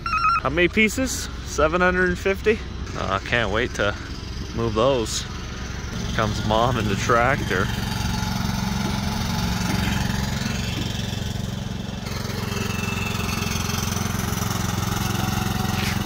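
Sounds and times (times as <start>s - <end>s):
lawn tractor engine running: 0.0s - 16.0s.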